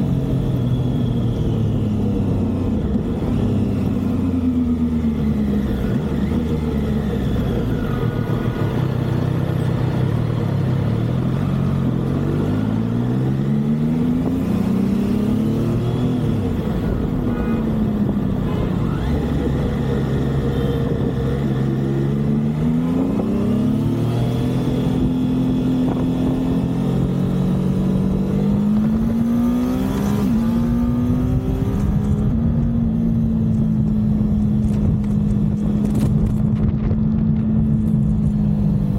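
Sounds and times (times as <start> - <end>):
motorcycle engine accelerating: 0.0 - 38.9
road and wind noise: 0.0 - 38.9.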